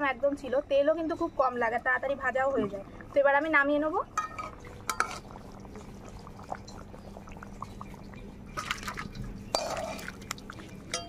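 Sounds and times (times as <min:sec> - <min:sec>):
curry bubbling in pan: 0:02.0 - 0:11.0.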